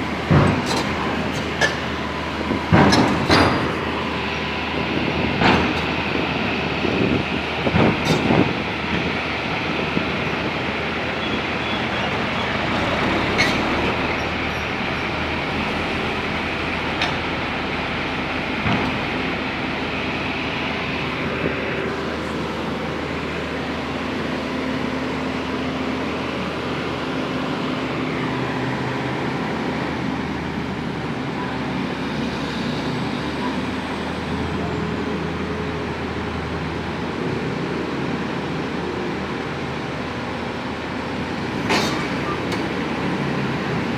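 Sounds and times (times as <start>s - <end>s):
construction machinery diesel drone: 0.0s - 43.9s.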